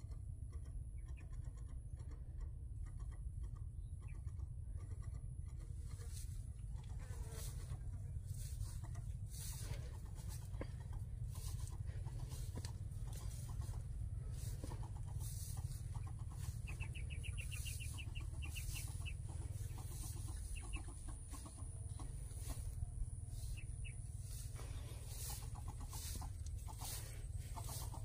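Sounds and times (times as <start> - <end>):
chickens clucking: 0.0 - 28.0
steady low rumble: 0.0 - 28.0.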